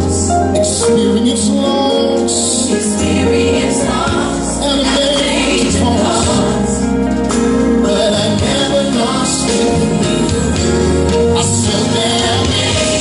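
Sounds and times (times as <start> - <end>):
choir singing gospel music: 0.0 - 13.0
steady bass line: 0.0 - 13.0.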